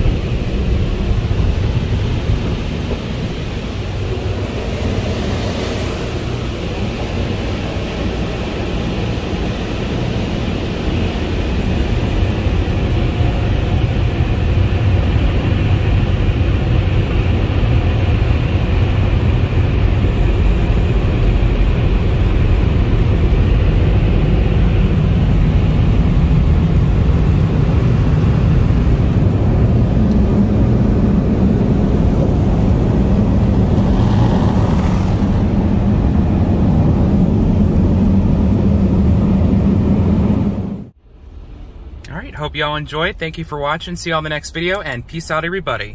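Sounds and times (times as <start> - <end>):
dryer blowers rushing air: 0.0 - 42.0.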